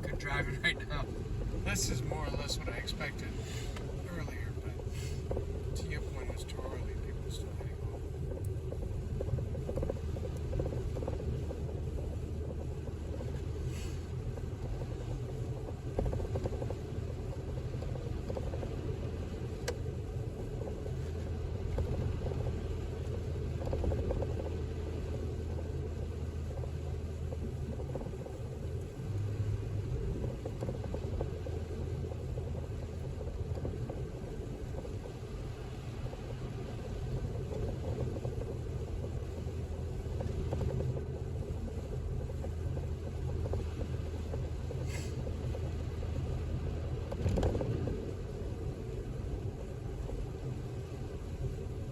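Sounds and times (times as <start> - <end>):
car engine and tyre noise: 0.0 - 51.9.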